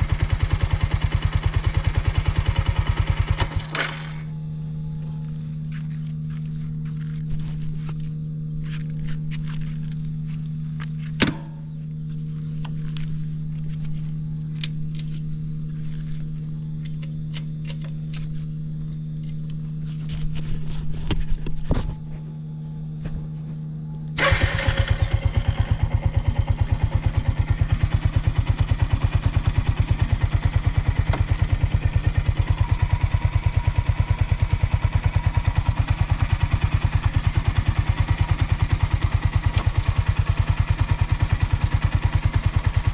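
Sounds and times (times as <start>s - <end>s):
motorcycle engine idling: 0.0s - 19.3s, 24.2s - 42.9s
steady hum: 0.0s - 24.2s, 25.0s - 41.9s.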